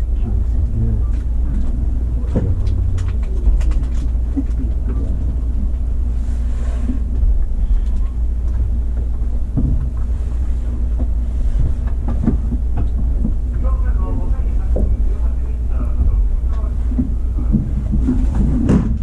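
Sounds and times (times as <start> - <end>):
train cab rumble and hum: 0.0 - 19.0.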